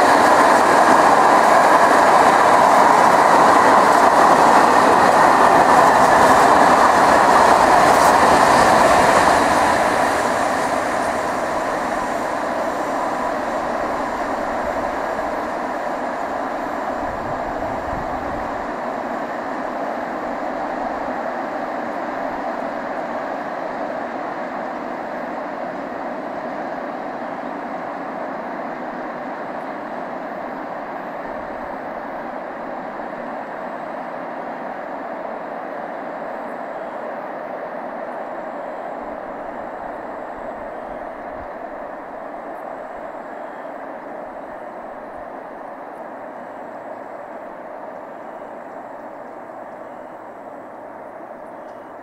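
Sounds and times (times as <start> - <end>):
freight train rolling on rails: 0.0 - 52.0.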